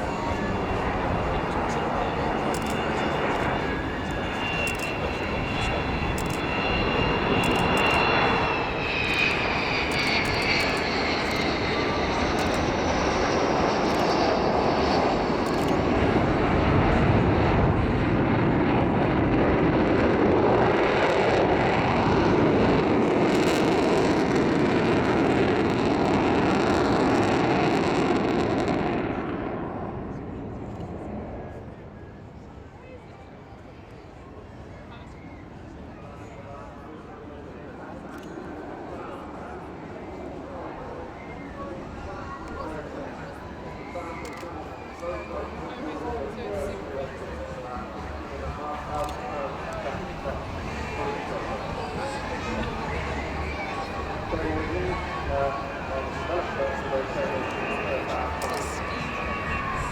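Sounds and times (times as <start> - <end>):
high jet whine: 0.0 - 31.8, 38.9 - 59.9
jet engines roaring past: 0.0 - 59.9.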